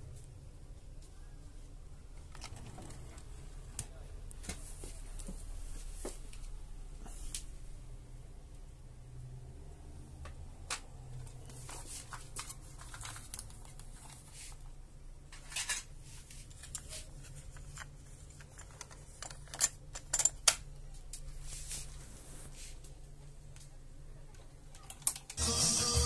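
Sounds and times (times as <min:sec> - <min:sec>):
faint low hum: 0:00.0 - 0:25.4.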